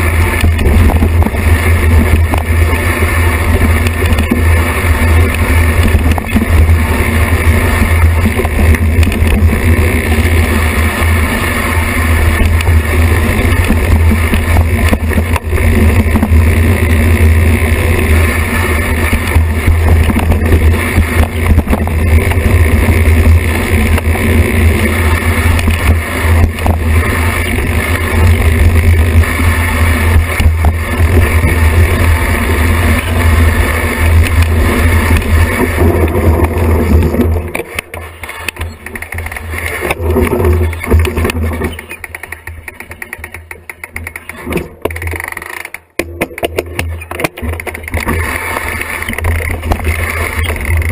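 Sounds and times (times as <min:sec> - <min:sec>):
wind rumble: 0:00.0 - 0:43.7, 0:46.7 - 0:50.9
bike tyres rolling over dirt: 0:00.0 - 0:50.9.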